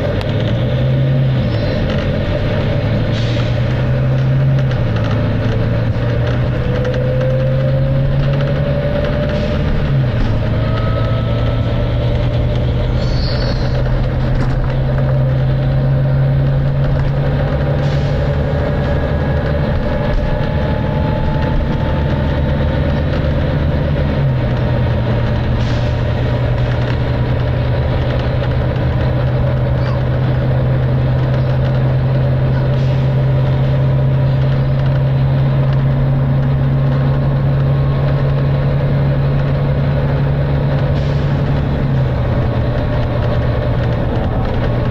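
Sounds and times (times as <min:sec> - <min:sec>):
bus diesel engine droning: 0:00.0 - 0:44.9.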